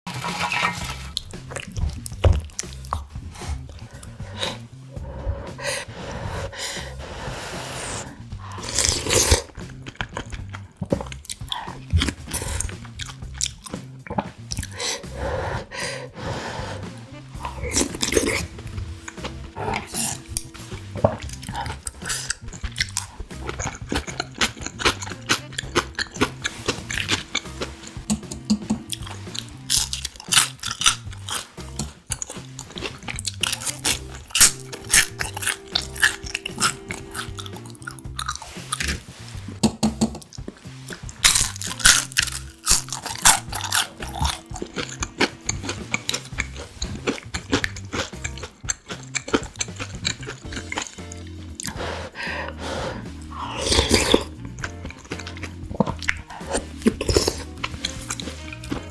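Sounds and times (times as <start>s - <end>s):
crunchy chewing of fried shrimp: 0.1s - 4.7s, 7.6s - 15.7s, 17.2s - 39.2s, 40.2s - 58.9s
background music: 0.1s - 58.9s.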